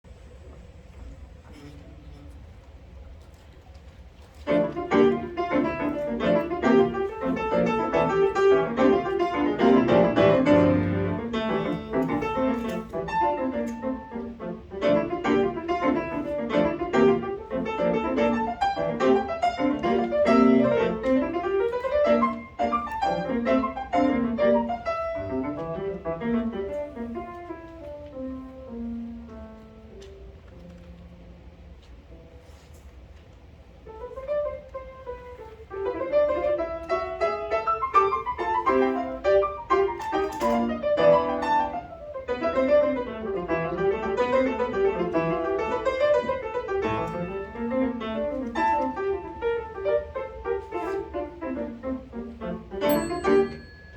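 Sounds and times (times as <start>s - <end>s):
solo piano fast runs: 4.4s - 31.5s, 33.8s - 53.9s.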